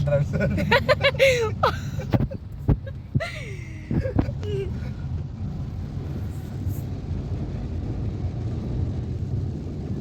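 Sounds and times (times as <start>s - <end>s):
car driving through floodwater: 0.0s - 10.0s.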